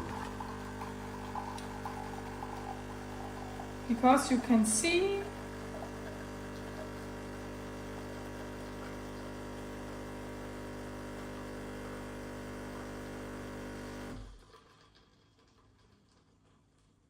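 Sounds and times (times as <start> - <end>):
espresso machine pump buzzing: 0.0 - 14.4.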